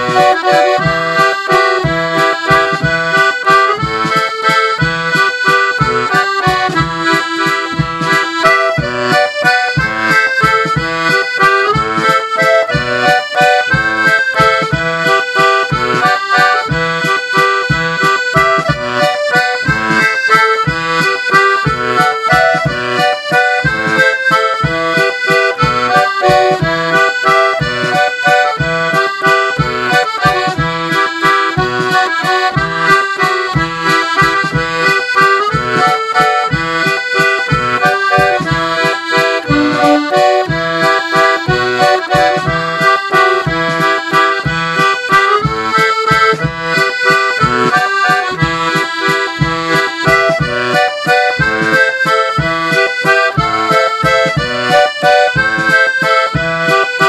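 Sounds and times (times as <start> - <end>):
accordion waltz: 0.0 - 57.0.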